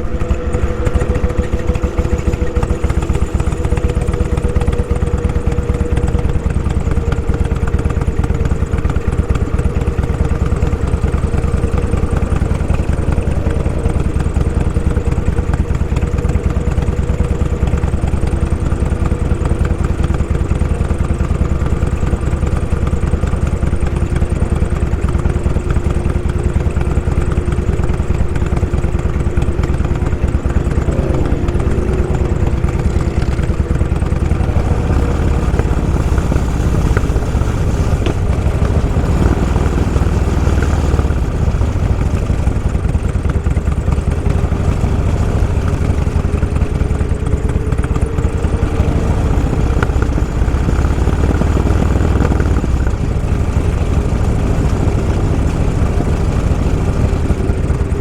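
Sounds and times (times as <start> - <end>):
motorcycle engines rumbling: 0.0 - 58.0.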